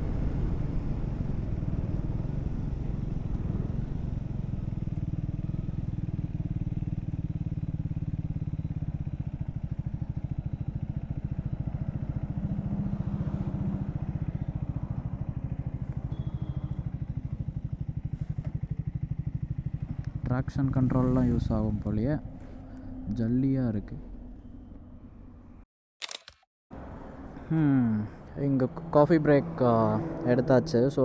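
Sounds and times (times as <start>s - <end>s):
motorcycle engine running: 0.0s - 25.6s.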